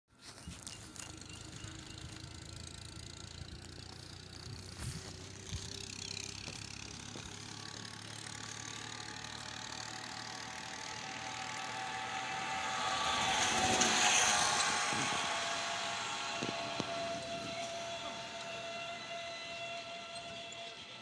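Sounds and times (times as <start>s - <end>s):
passing motor vehicle engine: 0.1s - 21.0s.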